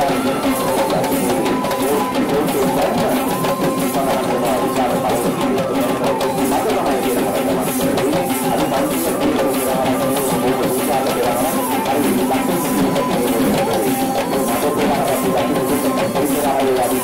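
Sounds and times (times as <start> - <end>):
drums beating fast rhythm: 0.0 - 17.0
wavering melody line: 0.0 - 17.0.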